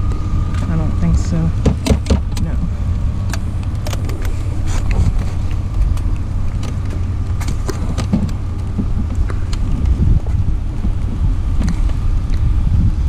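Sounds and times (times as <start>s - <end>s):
road rumble: 0.0s - 13.0s
van engine running: 0.0s - 13.0s.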